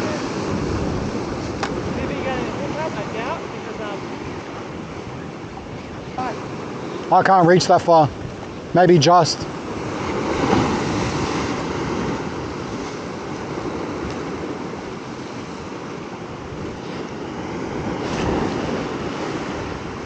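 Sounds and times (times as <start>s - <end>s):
wind on microphone: 0.0s - 7.1s, 9.4s - 20.0s
ocean surf washing against rocks: 0.0s - 20.0s.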